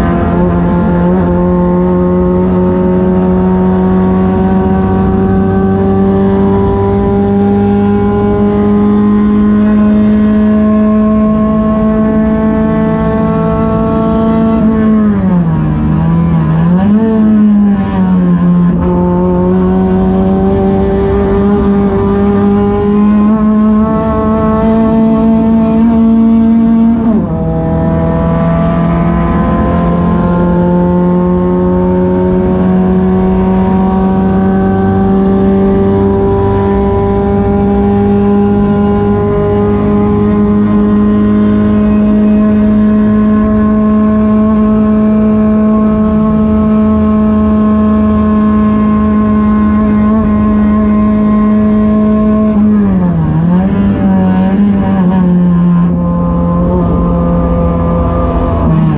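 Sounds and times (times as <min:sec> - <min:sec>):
race car engine running hard: 0:00.0 - 0:58.9.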